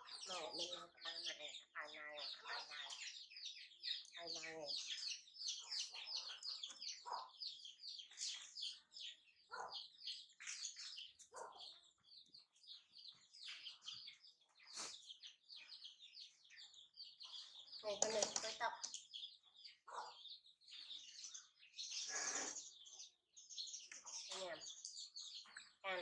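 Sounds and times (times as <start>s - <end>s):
low bird calls: 0.0s - 26.0s
small birds chirping: 0.0s - 26.0s.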